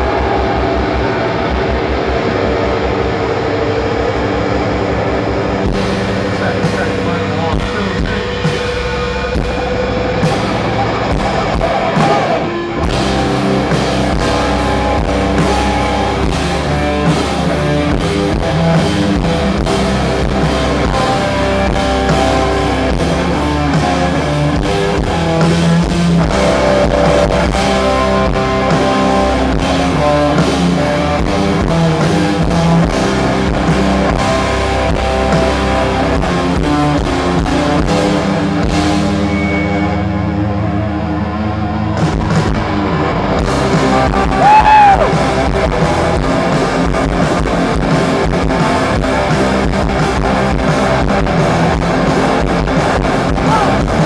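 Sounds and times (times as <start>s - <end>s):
drum kit: 0.0s - 41.0s, 41.7s - 54.0s
electric guitars: 0.0s - 54.0s.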